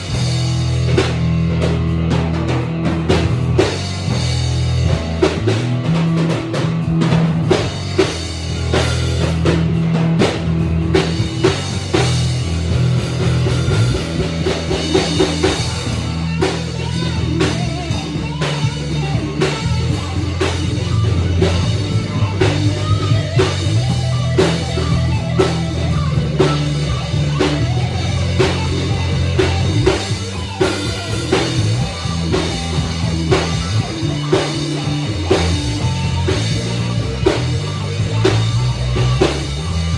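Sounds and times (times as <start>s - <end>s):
band playing instrumental: 0.0s - 39.9s
bass line: 0.0s - 39.9s
steady drum hits: 0.0s - 39.9s.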